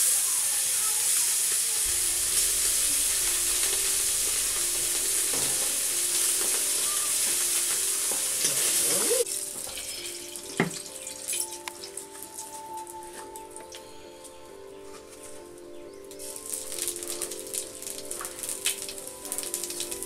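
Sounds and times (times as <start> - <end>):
food sizzling in hot oil: 0.0 - 13.0, 16.2 - 20.0.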